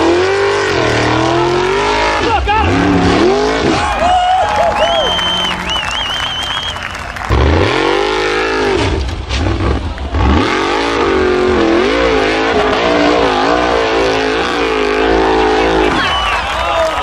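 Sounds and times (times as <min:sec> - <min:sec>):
buggy engine revving hard: 0:00.0 - 0:06.6, 0:07.2 - 0:16.3
wheels spinning in loose dirt: 0:02.7 - 0:17.0.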